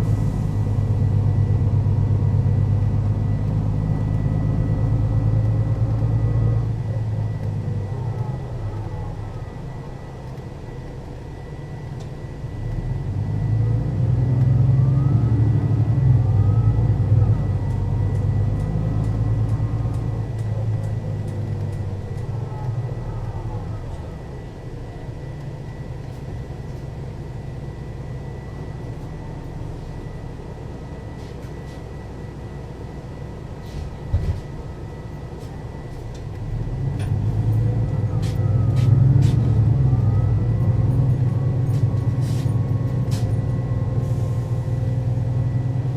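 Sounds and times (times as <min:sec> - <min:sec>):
diesel bus engine accelerating: 0:00.0 - 0:45.9
steady high whine: 0:00.0 - 0:45.9.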